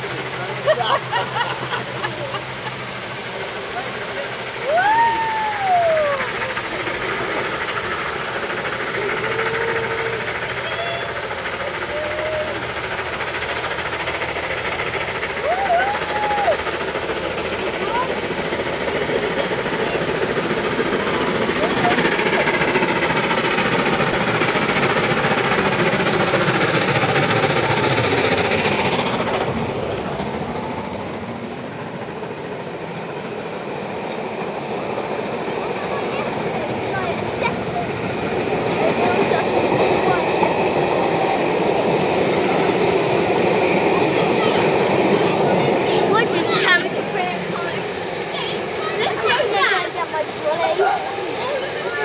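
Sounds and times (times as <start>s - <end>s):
rumble of coaches rolling: 0.0s - 52.0s
steam locomotive exhaust beats: 0.0s - 52.0s
torrential rain hissing: 0.0s - 52.0s.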